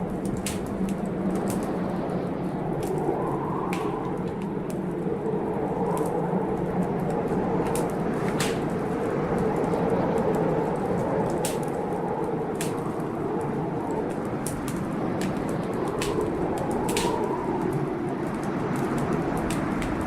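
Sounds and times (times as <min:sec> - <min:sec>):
storm noise: 0:00.0 - 0:20.0
wood fire crackling: 0:00.0 - 0:20.0.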